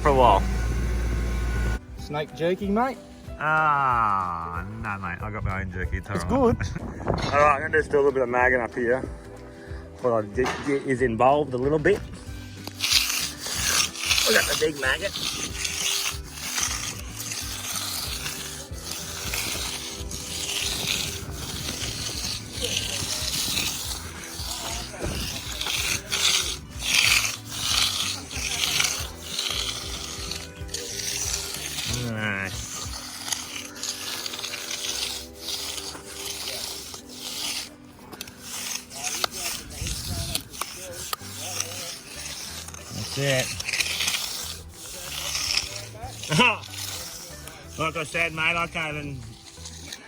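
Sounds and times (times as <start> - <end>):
float scraping wet concrete: 0.0 - 50.0.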